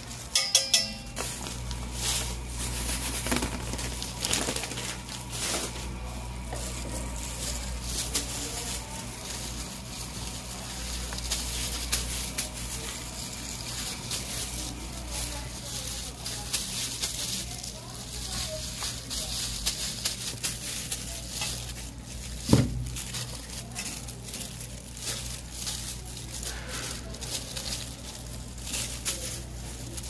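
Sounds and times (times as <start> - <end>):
breadcrumbs rustling from plastic bag: 0.0 - 0.4, 1.0 - 30.0.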